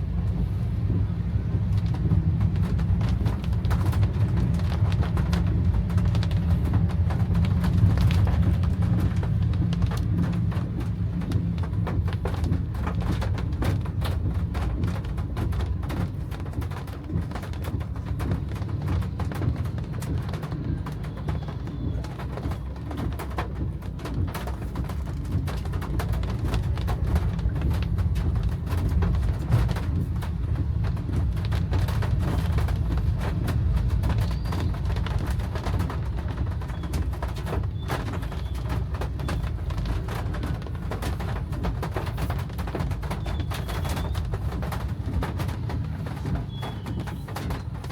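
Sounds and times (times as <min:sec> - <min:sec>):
car engine and road noise: 0:00.0 - 0:47.9
rain hitting a car: 0:00.0 - 0:47.9.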